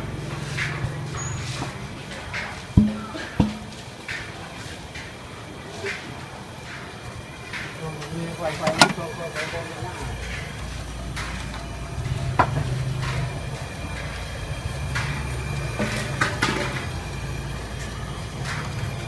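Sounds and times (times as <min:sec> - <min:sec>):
steady low hum: 0:00.0 - 0:05.4, 0:06.4 - 0:19.0
metal plates clinking: 0:00.6 - 0:05.1, 0:06.7 - 0:19.0.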